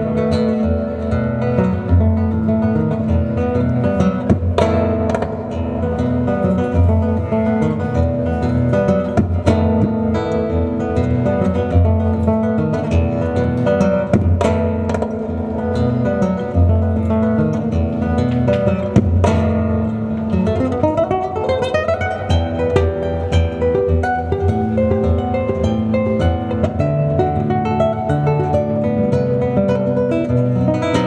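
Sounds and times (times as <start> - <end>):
fingerpicked classical guitar: 0.0 - 31.0
strummed guitar chords: 0.0 - 31.0.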